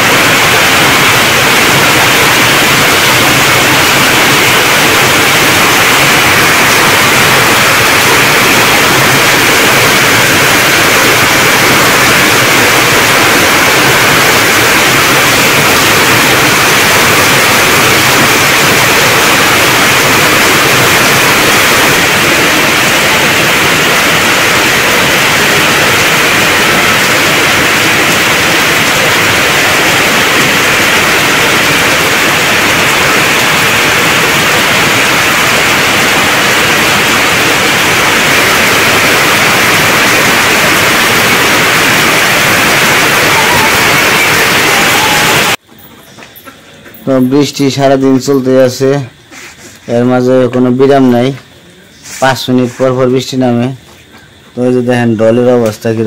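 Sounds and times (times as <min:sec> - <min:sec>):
heavy rain on tin roofs: 0:00.0 - 0:45.6.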